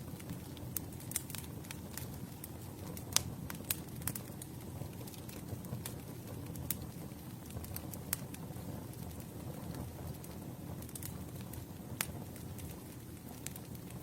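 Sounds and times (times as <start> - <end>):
rumble of flames: 0.0 - 14.0
wood popping and crackling: 0.0 - 14.0.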